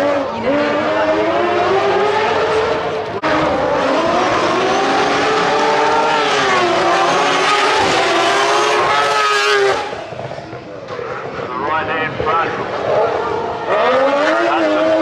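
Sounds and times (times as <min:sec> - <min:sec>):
rally car engine at high revs: 0:00.0 - 0:11.5, 0:12.4 - 0:15.0.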